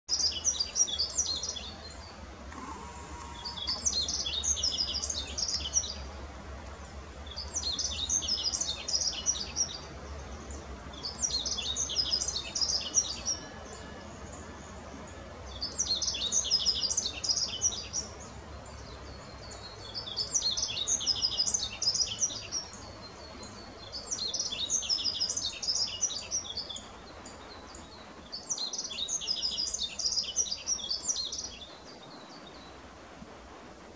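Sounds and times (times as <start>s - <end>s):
bird twittering song: 0.1s - 32.8s.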